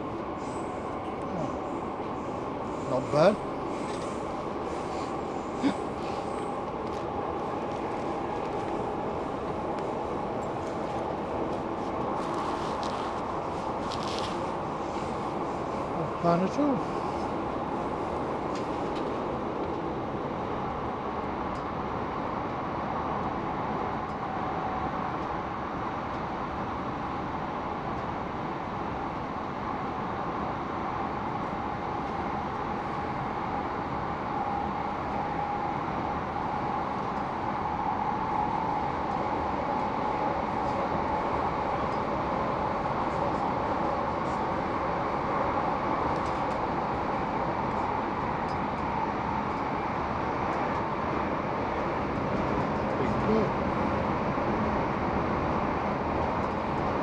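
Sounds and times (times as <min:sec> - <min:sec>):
electric train running rumble: 0:00.0 - 0:57.0.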